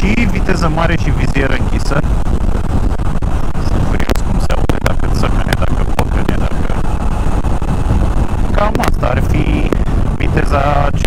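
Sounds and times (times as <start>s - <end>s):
motorcycle engine: 0.0s - 11.0s
wind crackles on microphone: 0.0s - 11.0s
wind rush: 0.0s - 11.0s.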